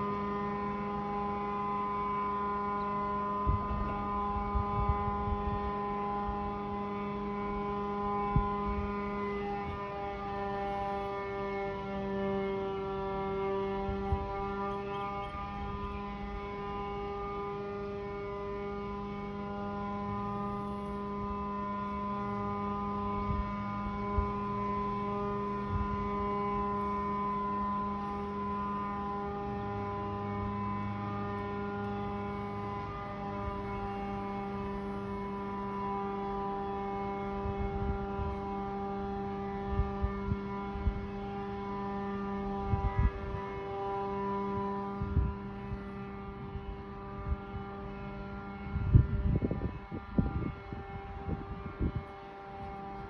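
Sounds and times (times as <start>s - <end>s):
steady multi-tone hum: 0.0s - 53.0s.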